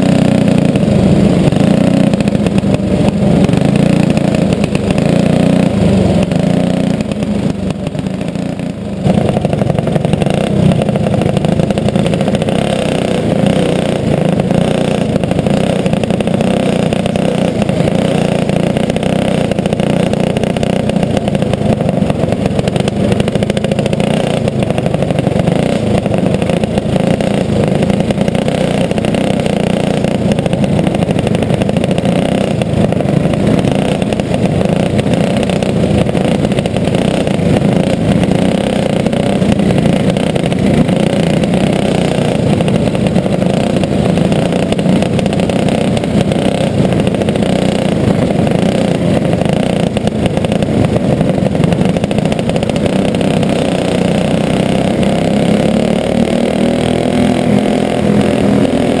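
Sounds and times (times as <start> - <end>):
go-kart engine running: 0.0 - 59.0
other kart engines: 0.0 - 59.0.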